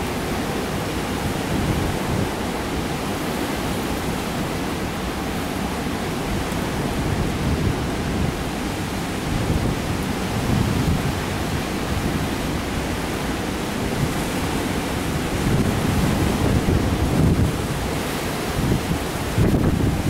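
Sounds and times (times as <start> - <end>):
heavy surf breaking: 0.0 - 20.0
wind buffeting microphone: 0.0 - 20.0.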